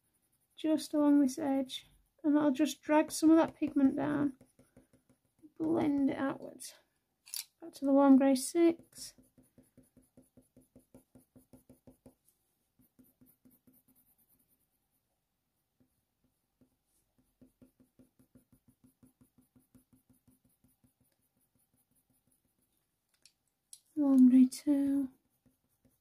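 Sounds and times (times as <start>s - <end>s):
pencil strokes on paper: 0.0s - 6.8s, 7.7s - 23.1s, 23.9s - 26.0s.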